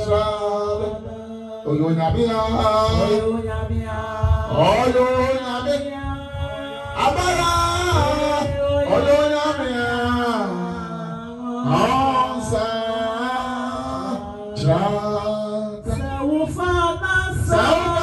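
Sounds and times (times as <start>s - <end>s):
man singing worship song: 0.0s - 18.0s.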